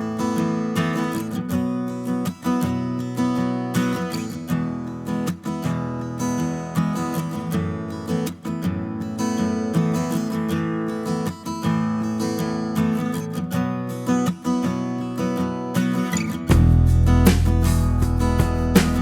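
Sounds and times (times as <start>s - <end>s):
strummed acoustic guitar music: 0.0s - 19.0s.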